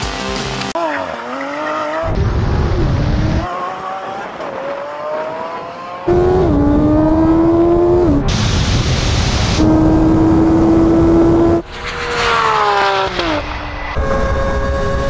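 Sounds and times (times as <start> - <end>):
car engine accelerating: 0.8 - 8.4, 9.0 - 15.0
motorcycle engine accelerating: 0.8 - 8.4, 9.3 - 15.0.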